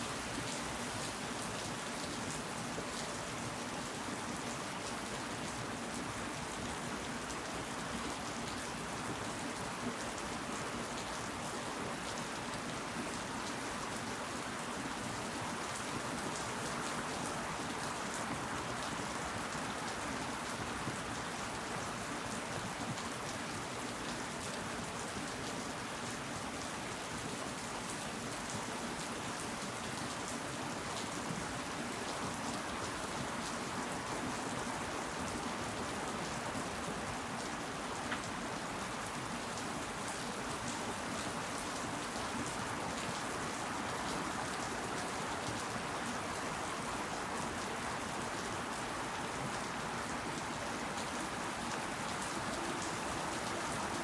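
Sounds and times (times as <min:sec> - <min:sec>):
rain pattering on leaves: 0:00.0 - 0:54.0.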